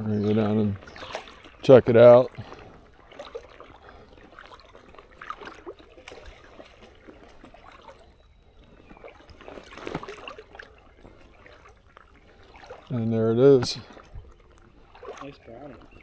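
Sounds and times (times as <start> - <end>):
creek water trickling: 0.0 - 16.0
small splashes and crackles: 0.0 - 16.0.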